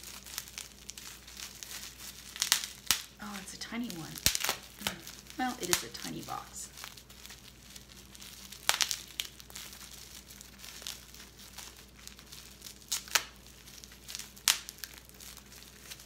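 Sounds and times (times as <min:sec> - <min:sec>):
bubble wrap crinkling and tearing: 0:00.0 - 0:16.0
sharp plastic crackles: 0:00.0 - 0:16.0.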